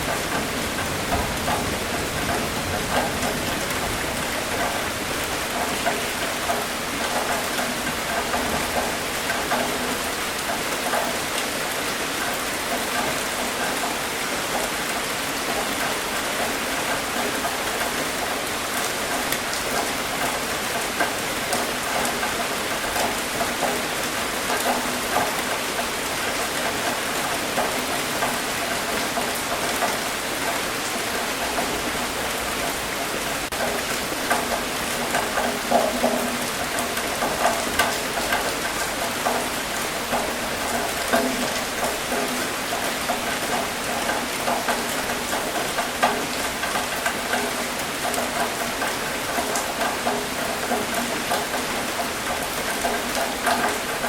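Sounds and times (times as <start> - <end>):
rain on a hard surface: 0.0 - 54.0.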